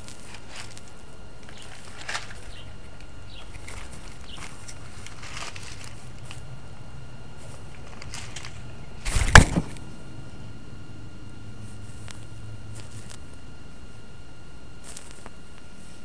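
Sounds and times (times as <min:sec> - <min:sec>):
collar camera rubbing and rustling: 0:00.0 - 0:06.6, 0:07.2 - 0:09.9, 0:11.6 - 0:14.2, 0:14.8 - 0:16.0.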